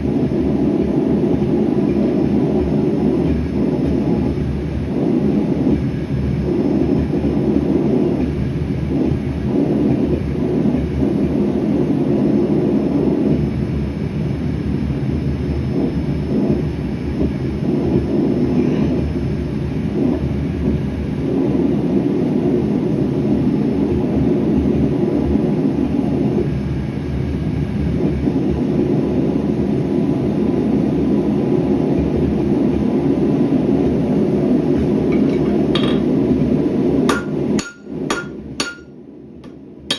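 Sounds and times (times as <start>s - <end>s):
gas forge burner roaring: 0.0s - 39.9s.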